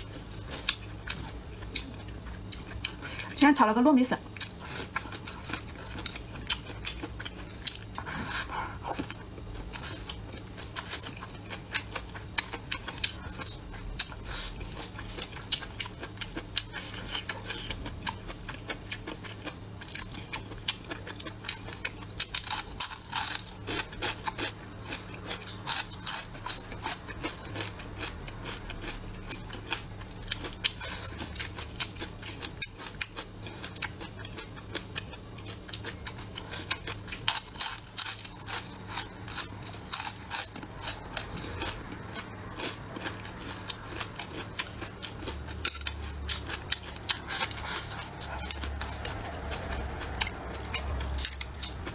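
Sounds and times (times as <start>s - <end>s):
chewing and crunching: 0.0s - 51.9s
low steady hum: 0.0s - 51.9s.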